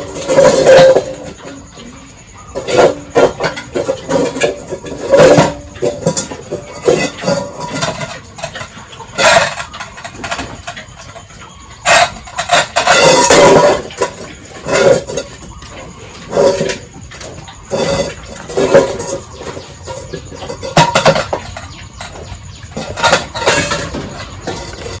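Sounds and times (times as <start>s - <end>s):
pigs squealing and grunting: 0.0s - 25.0s.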